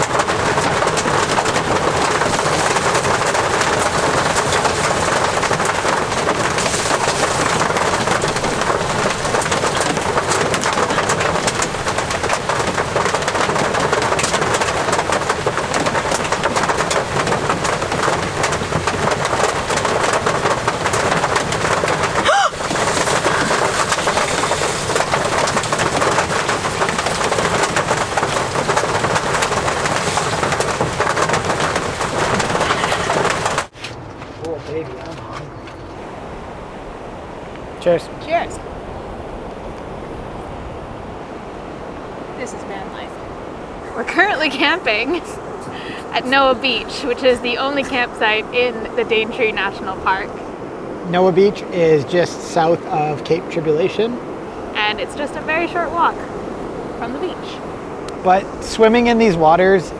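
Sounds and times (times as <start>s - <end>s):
steady rain falling: 0.0s - 33.7s, 42.2s - 50.2s, 50.8s - 59.9s.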